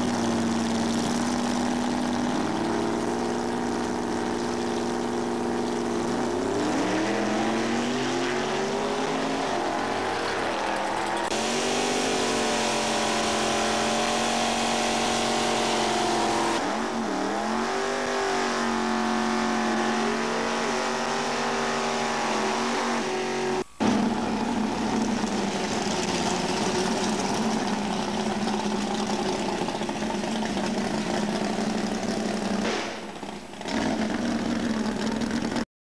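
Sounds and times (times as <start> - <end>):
drag car engine revving: 0.0 - 35.6.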